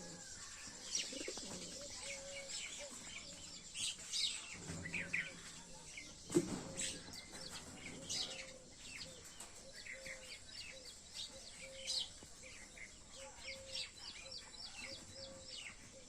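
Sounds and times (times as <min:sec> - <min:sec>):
birds chirping and twittering: 0:00.0 - 0:16.0.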